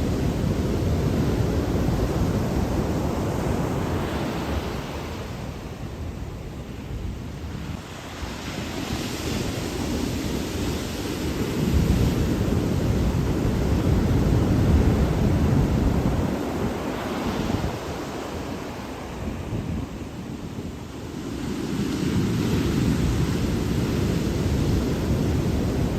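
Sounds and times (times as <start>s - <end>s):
ocean surf washing: 0.0s - 25.9s
wind buffeting microphone: 0.0s - 25.9s.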